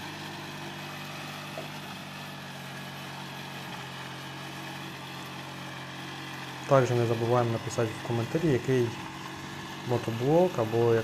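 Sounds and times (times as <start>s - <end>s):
walk-behind tractor engine running: 0.0s - 11.0s.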